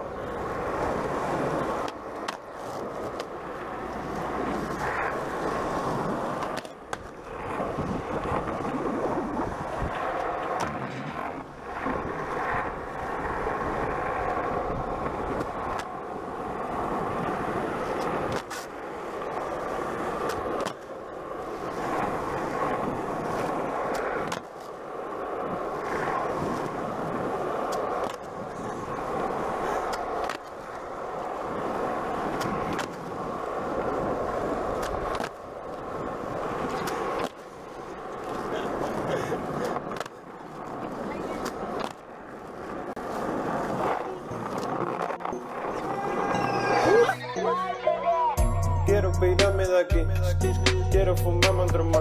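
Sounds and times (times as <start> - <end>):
skateboard clacks: 0.0 - 46.3
skateboard wheels rolling on asphalt: 0.0 - 47.3, 48.9 - 52.0.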